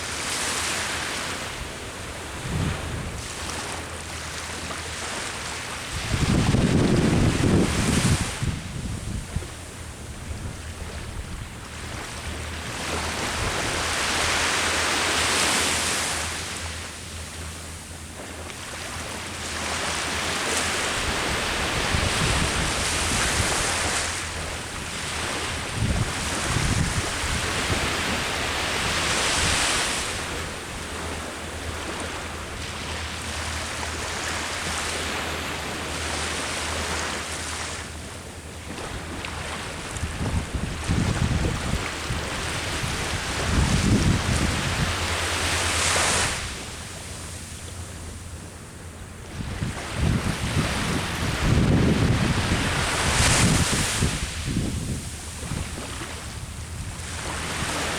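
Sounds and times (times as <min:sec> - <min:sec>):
sea waves breaking on shore: 0:00.0 - 0:57.9
wind rumbling on microphone: 0:01.2 - 0:04.3, 0:05.0 - 0:15.0, 0:19.6 - 0:37.2, 0:38.6 - 0:48.3, 0:49.0 - 0:57.9.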